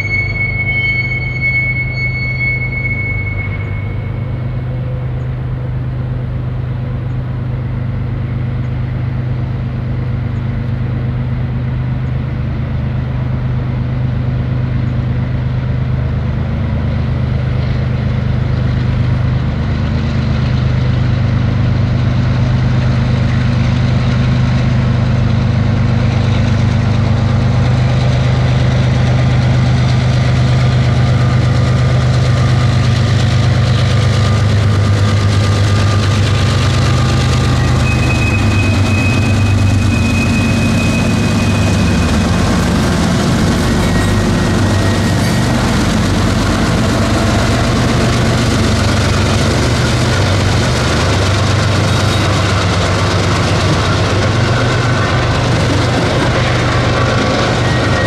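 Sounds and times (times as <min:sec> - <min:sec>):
locomotive engines droning: 0:00.0 - 0:58.0.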